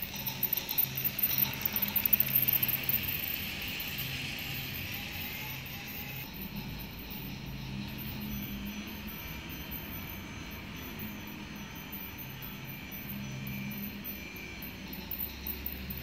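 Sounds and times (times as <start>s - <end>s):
toy train whirring: 0.0s - 16.0s.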